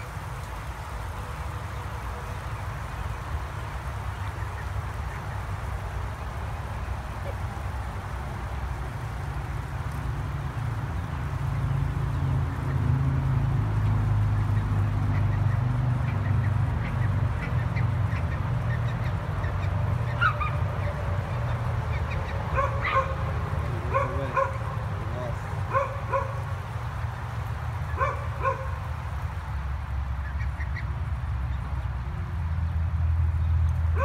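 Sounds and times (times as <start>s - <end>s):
low engine hum: 0.0s - 34.0s
roosters calling: 0.0s - 34.0s.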